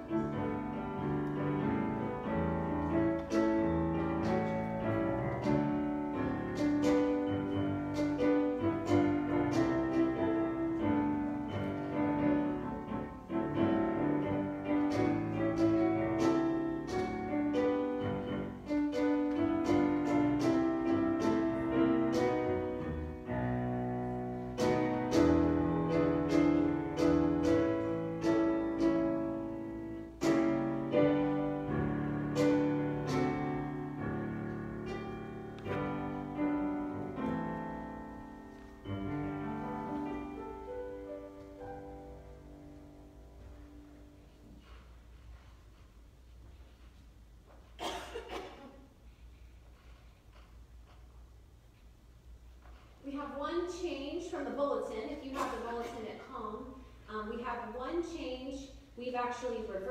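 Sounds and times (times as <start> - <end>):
slow piano chords: 0.0 - 48.7, 59.6 - 59.9.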